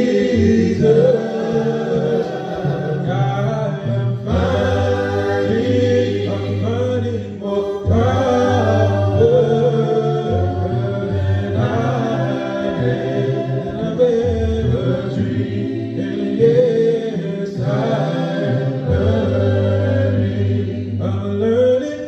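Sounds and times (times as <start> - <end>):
male vocal group singing: 0.0 - 22.0.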